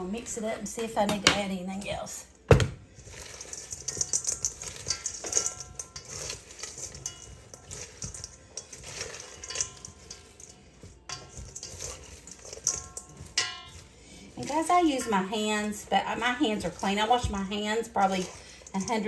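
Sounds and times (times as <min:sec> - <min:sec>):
salad rustling in a metal bowl: 0:00.0 - 0:19.0.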